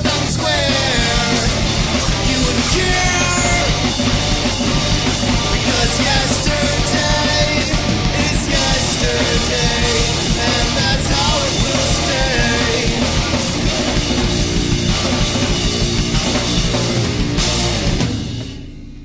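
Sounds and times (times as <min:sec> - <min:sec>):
loud rock band playing: 0:00.0 - 0:18.7.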